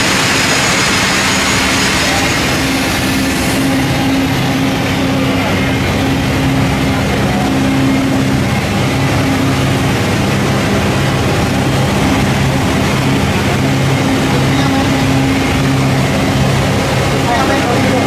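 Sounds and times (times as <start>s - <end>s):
machinery drone: 0.0s - 18.0s.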